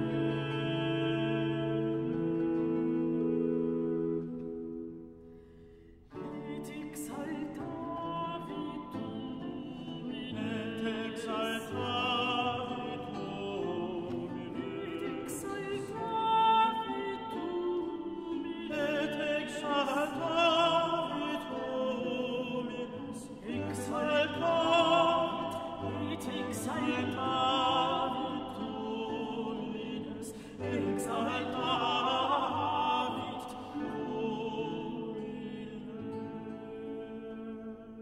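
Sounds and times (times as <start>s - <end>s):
operatic voice singing: 0.0s - 4.0s, 6.2s - 38.0s
orchestral accompaniment: 0.0s - 5.4s, 6.1s - 37.0s.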